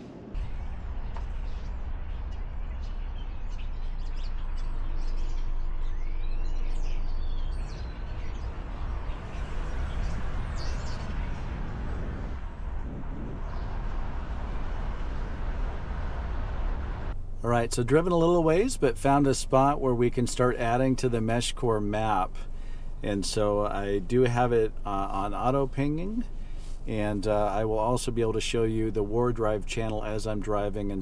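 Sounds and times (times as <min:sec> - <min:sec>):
birds chirping: 0:00.0 - 0:15.2, 0:17.1 - 0:31.0
car rumbling: 0:00.0 - 0:31.0.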